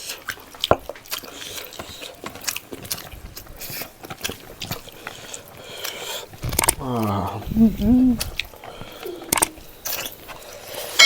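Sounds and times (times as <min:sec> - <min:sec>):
wet mouth clicks and smacks: 0:00.0 - 0:10.4
person chewing food: 0:00.0 - 0:11.0.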